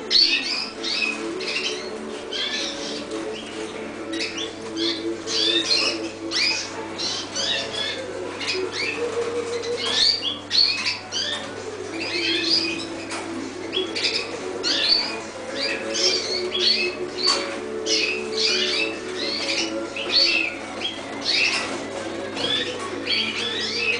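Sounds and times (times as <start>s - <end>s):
canaries chirping and singing: 0.0s - 23.9s.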